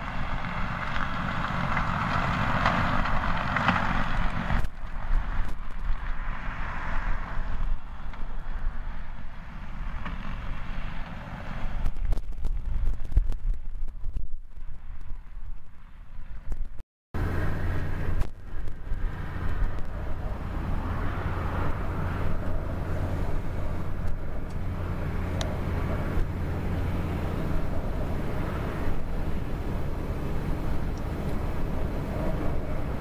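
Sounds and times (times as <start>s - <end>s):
tractor engines droning: 0.0s - 33.0s
uneven rumbling of tractor and spreader: 0.0s - 33.0s.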